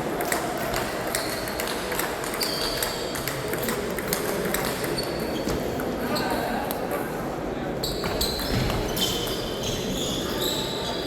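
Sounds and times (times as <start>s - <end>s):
sports hall background noise: 0.0s - 11.0s.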